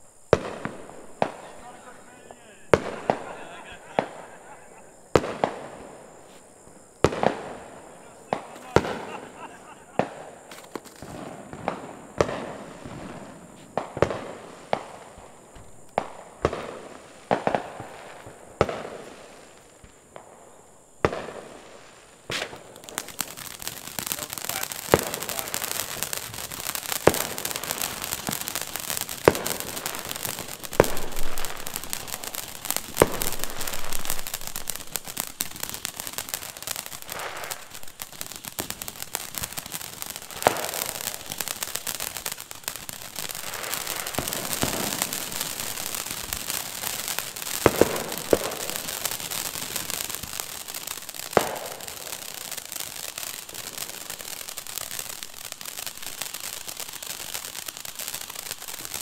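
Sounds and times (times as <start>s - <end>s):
firework pops: 0.0s - 20.4s, 21.0s - 59.0s
firework crackling hiss: 0.0s - 59.0s.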